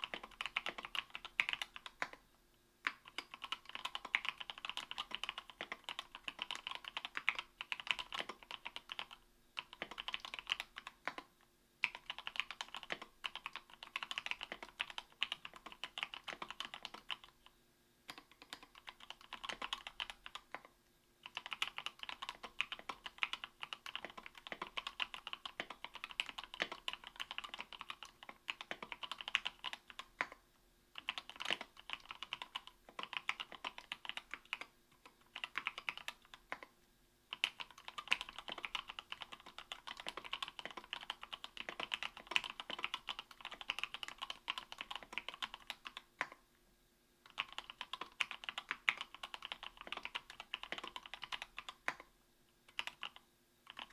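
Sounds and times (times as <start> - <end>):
mechanical keyboard typing: 0.0 - 2.2, 2.8 - 17.5, 18.1 - 30.4, 31.0 - 36.7, 37.3 - 46.4, 47.3 - 52.1, 52.7 - 53.9.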